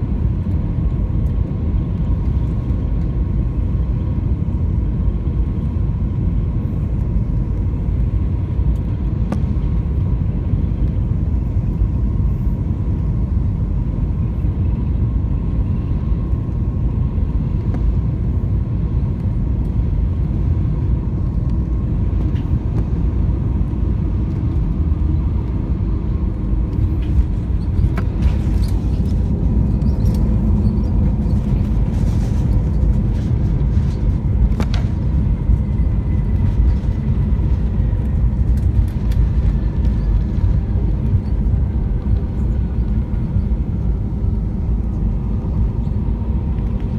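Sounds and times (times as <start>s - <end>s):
aircraft cabin engine rumble: 0.0s - 46.9s
faint steady whine: 0.0s - 46.9s.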